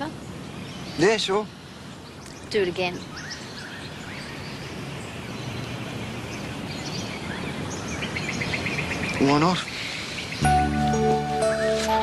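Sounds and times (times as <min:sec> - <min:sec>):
background hiss: 0:00.0 - 0:12.0
birds chirping: 0:00.0 - 0:12.0.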